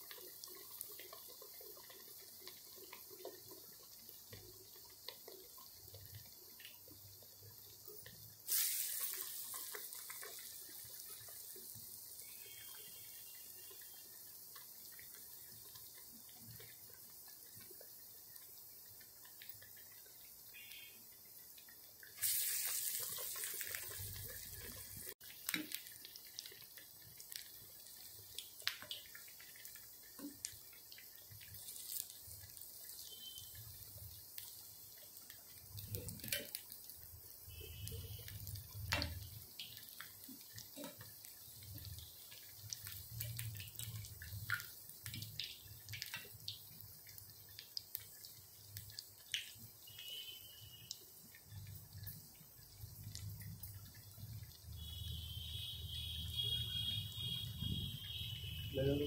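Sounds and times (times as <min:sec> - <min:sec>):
food deep-frying in hot oil: 0:00.0 - 0:59.0
oil crackles and pops: 0:00.0 - 0:59.0.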